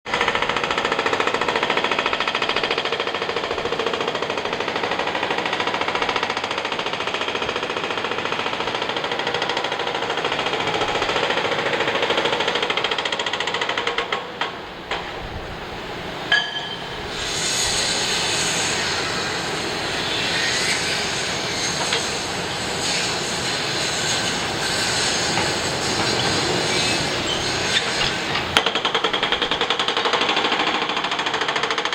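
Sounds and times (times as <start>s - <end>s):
jackhammer hammering: 0.1s - 15.1s, 16.3s - 31.9s.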